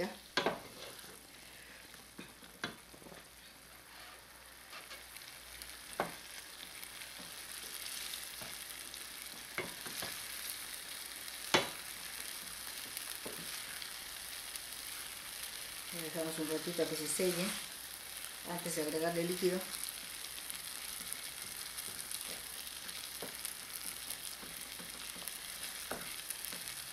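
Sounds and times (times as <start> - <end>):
meat sizzling in a pot: 0.0 - 26.9.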